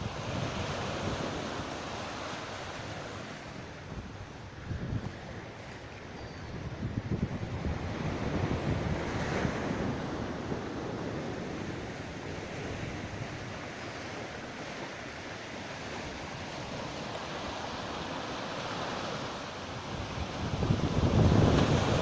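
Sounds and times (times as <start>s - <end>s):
waves breaking on shore: 0.0s - 22.0s
wind rumbling on microphone: 0.0s - 22.0s.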